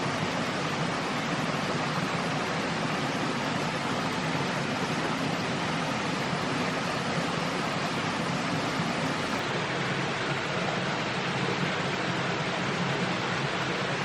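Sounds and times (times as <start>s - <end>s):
steady water-like rushing noise: 0.0s - 14.0s.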